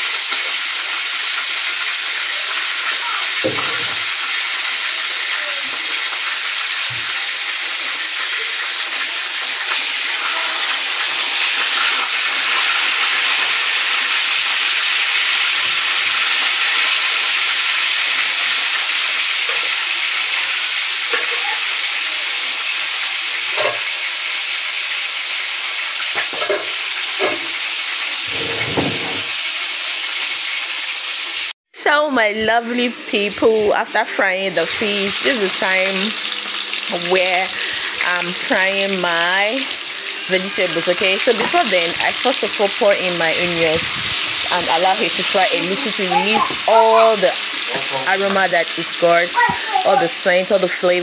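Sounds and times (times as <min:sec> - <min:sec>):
fish sizzling in hot oil: 0:00.0 - 0:31.6, 0:32.8 - 0:51.0.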